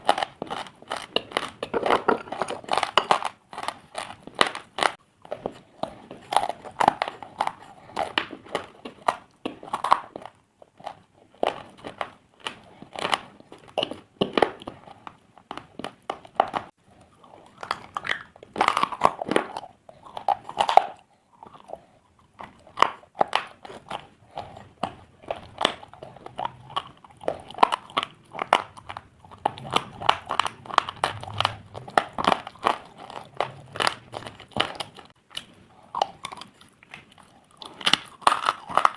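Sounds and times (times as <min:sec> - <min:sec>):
slate being chewed crunching: 0:00.0 - 0:38.9.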